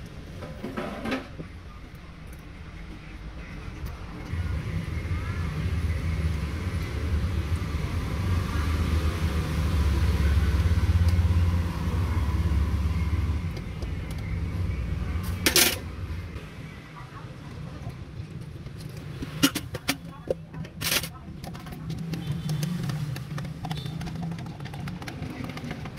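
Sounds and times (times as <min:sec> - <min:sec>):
vehicle engine rumbling: 0:00.0 - 0:25.9.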